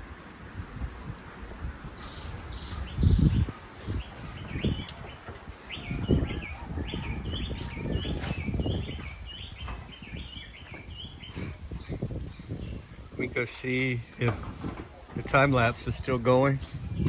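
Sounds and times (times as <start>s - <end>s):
wind or handling bumps on microphone: 0.0s - 17.0s
bird chirping: 1.4s - 17.0s.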